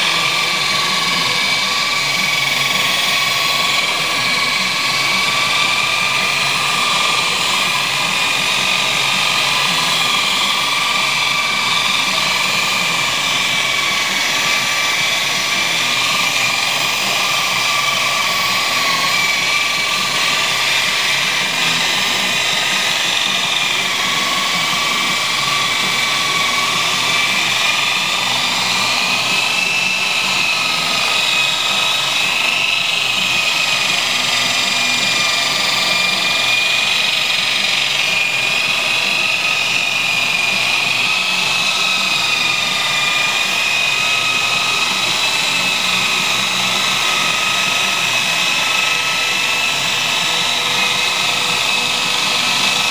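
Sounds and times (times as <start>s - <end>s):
electric polisher whining on metal: 0.0s - 52.9s.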